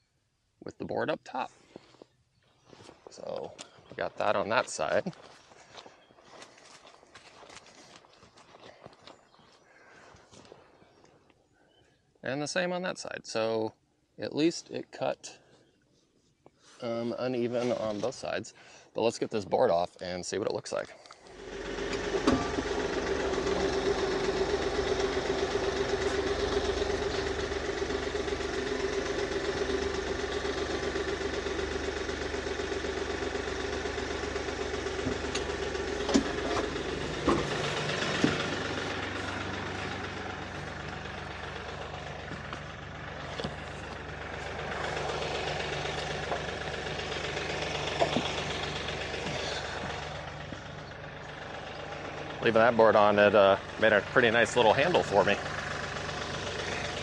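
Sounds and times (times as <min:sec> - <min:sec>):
tractor diesel engine running: 0:01.3 - 0:11.0, 0:21.1 - 0:57.0.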